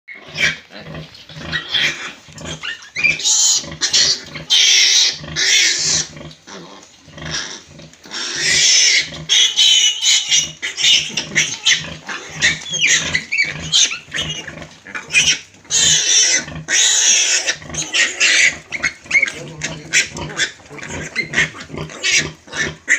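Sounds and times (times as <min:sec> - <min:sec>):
pigs grunting: 0:00.1 - 0:22.9
pigs squealing: 0:00.1 - 0:22.9.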